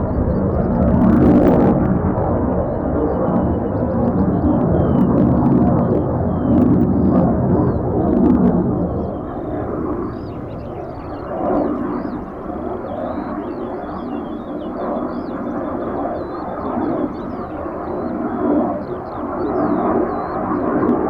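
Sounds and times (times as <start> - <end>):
distant jet engine rumbling: 0.0 - 21.0.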